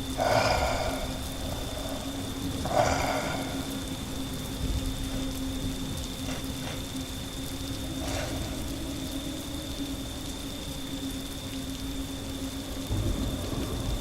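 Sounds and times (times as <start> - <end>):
constant low hum: 0.0 - 14.0
steady rain: 0.0 - 14.0.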